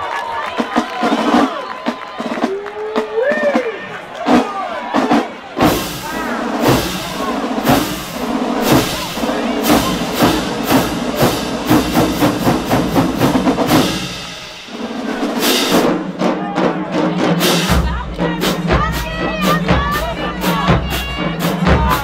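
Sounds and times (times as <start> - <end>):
crowd shouting and cheering: 0.0 - 22.0
marching band playing: 0.3 - 22.0
drum hits: 4.3 - 22.0.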